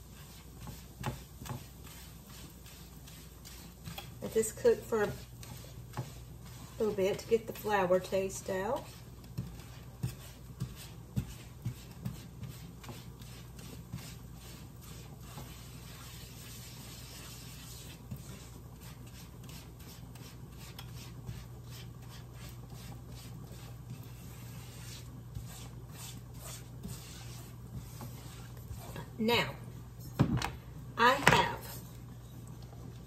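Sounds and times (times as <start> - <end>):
spatula scraping frying pan: 0.0 - 30.1.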